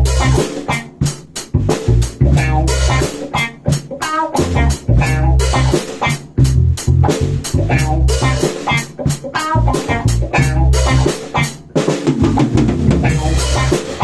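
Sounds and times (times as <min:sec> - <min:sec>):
rock drum beat: 0:00.0 - 0:14.0
rock song with guitar and bass: 0:00.0 - 0:14.0.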